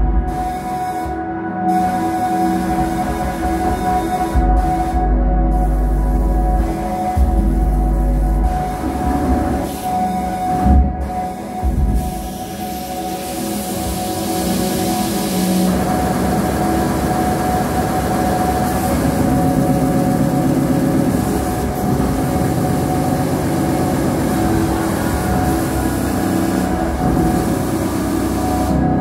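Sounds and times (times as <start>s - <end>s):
dense rumbling electronic drone: 0.0s - 29.0s.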